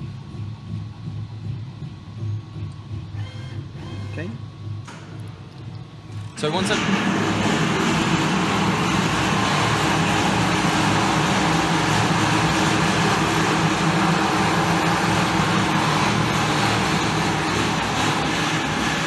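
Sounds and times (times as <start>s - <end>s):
low machine hum: 0.0s - 19.0s
machine shop equipment running: 0.0s - 19.0s.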